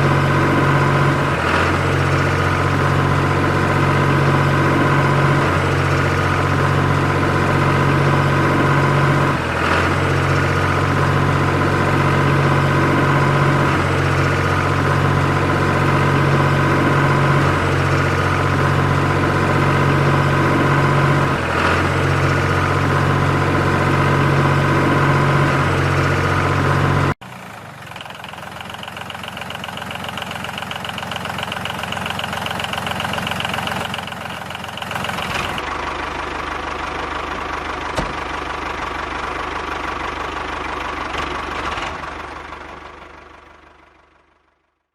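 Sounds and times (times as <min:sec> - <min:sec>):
quieter engine: 0:00.0 - 0:44.8
tractor engine idling: 0:00.0 - 0:44.8.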